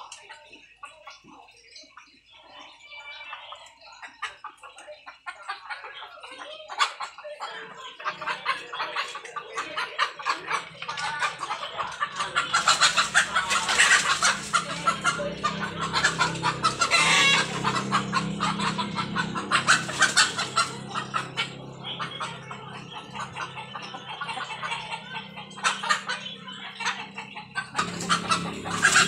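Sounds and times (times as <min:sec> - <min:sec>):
chickens squawking and cackling: 0:00.0 - 0:29.0.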